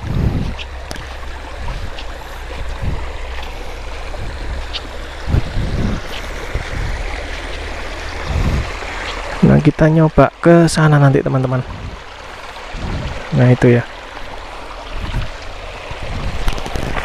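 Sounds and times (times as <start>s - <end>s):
low rumble: 0.0s - 9.4s, 11.6s - 17.0s
low thumps: 0.0s - 9.5s, 11.5s - 17.0s
stream flowing over stones: 0.0s - 17.0s.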